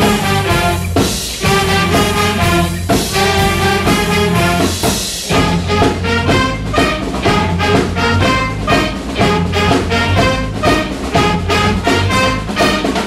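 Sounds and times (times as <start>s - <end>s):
jazz band playing: 0.0s - 13.0s
quick repeated horn notes: 0.0s - 13.0s.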